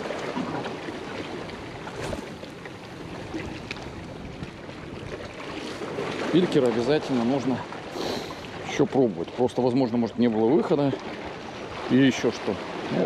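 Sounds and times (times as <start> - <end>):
waves lapping against rocks: 0.0 - 13.0.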